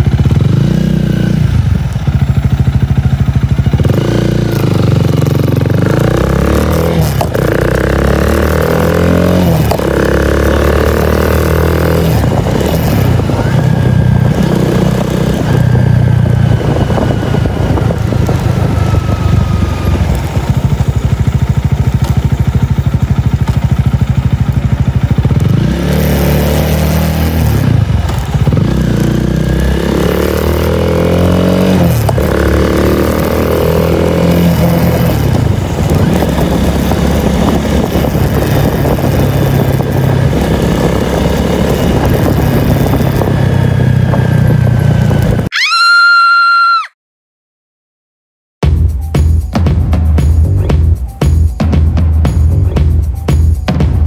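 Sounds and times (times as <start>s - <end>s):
motorcycle engine revving: 0.0s - 45.5s.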